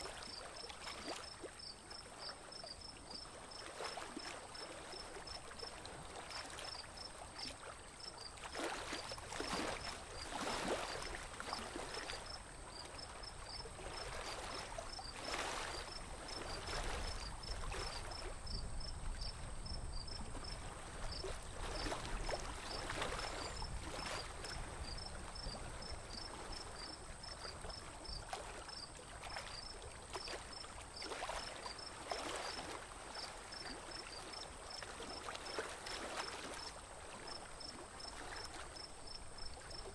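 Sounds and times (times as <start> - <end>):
water lapping around boat: 0.0 - 39.9.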